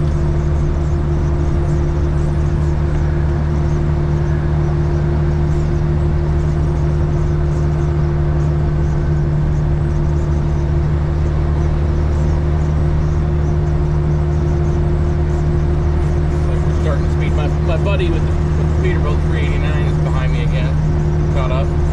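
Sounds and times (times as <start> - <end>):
diesel truck engine droning: 0.0 - 21.9
road noise: 0.0 - 21.9.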